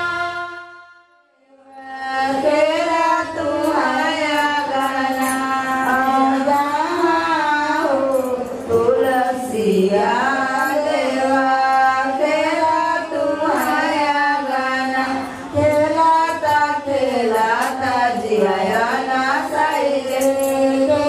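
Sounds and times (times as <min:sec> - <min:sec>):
woman singing: 0:01.7 - 0:21.0.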